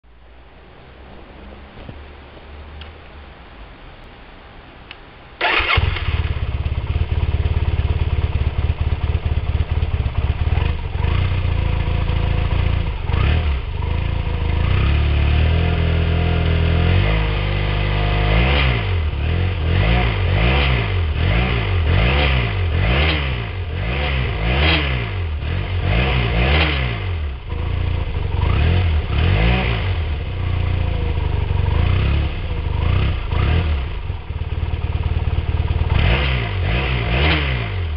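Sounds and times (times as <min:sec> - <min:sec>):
motorcycle engine idling and revving: 0:05.4 - 0:37.9.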